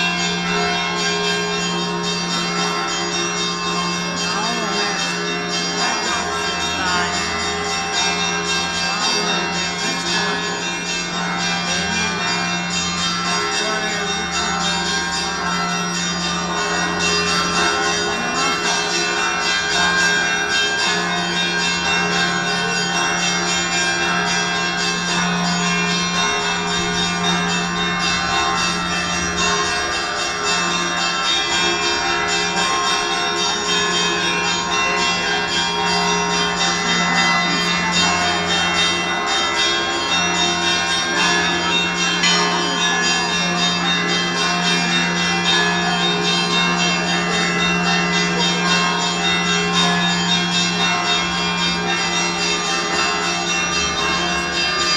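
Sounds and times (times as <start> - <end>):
church bells pealing: 0.0 - 54.9.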